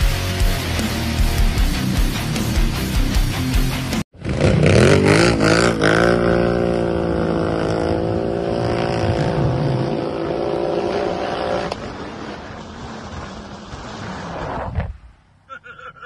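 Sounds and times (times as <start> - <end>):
vehicle engine revving: 0.0 - 14.6.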